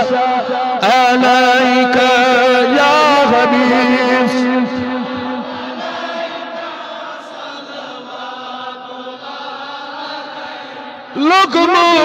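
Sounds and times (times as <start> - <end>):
chanted drone of voices: 0.0 - 12.0.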